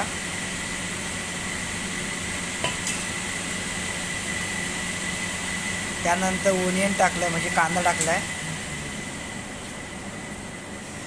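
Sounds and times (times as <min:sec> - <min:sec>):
machine hum with high whine: 0:00.0 - 0:11.0.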